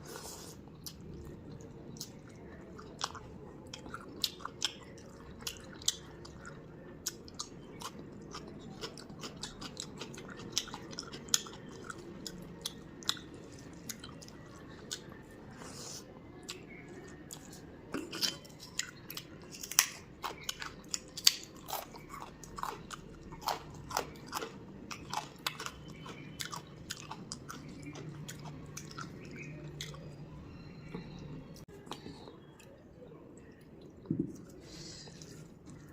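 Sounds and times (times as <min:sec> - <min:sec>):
chewing and biting food: 0:00.1 - 0:15.3, 0:16.4 - 0:30.2.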